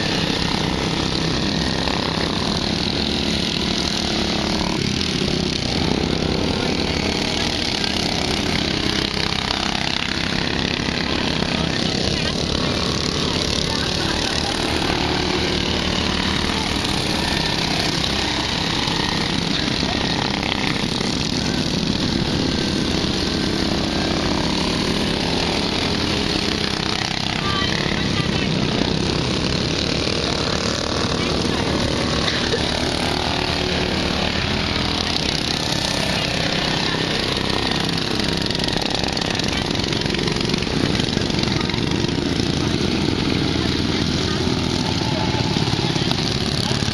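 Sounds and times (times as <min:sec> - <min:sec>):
lawn mower engines running: 0:00.0 - 0:46.9.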